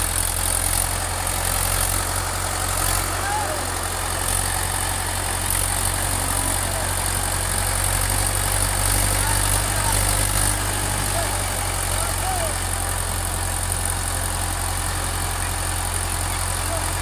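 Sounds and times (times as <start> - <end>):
tractor engine droning: 0.0 - 17.0.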